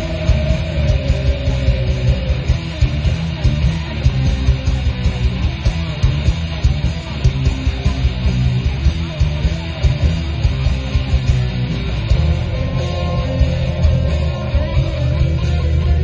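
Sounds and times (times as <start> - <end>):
electric guitar: 0.0 - 16.0
steady drum beat: 0.0 - 16.0.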